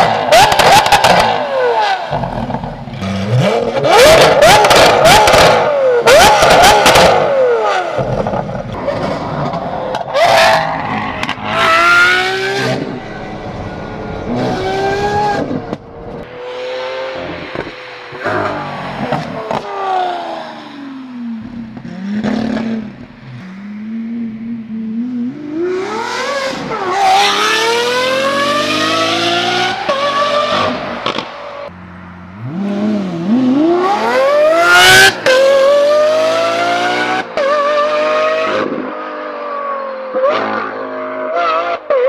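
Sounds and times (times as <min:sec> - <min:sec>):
sports car engine accelerating: 0:00.1 - 0:40.8.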